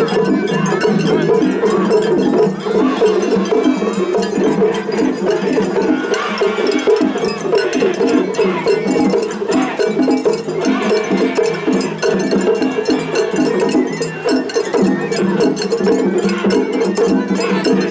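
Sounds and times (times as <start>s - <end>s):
bamboo flute: 0.0s - 17.9s
taiko drums: 0.0s - 17.9s.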